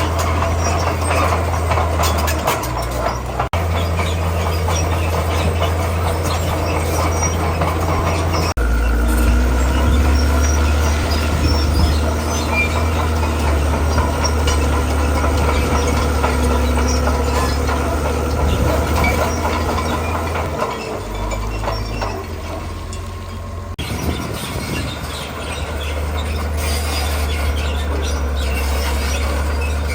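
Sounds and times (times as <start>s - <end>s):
bulldozer engine under load: 0.0s - 29.9s
tracks clanking and rattling: 0.0s - 29.9s.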